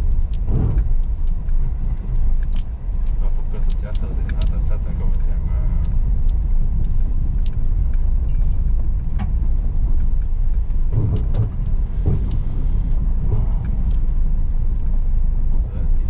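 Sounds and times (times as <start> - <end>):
car engine and tyres rumbling: 0.0 - 16.0
car knocking and rattling over stones: 0.0 - 16.0.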